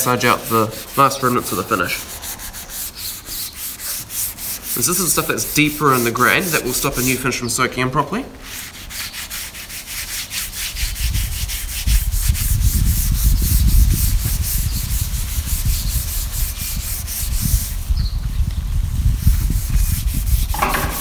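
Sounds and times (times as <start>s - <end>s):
pad scrubbing wet wood: 0.0s - 7.6s, 8.4s - 17.9s, 19.2s - 21.0s.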